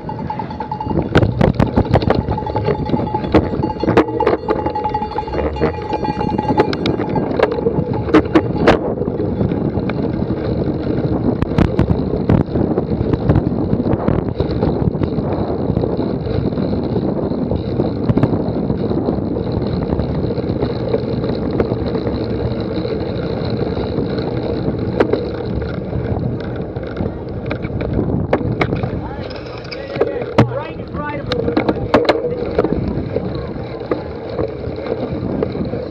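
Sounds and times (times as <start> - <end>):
bike knocking and rattling: 0.0 - 35.9
wind on microphone: 0.0 - 35.9.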